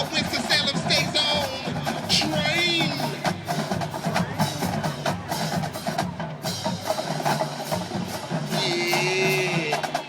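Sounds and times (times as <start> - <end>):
drumline playing a cadence: 0.0 - 10.0.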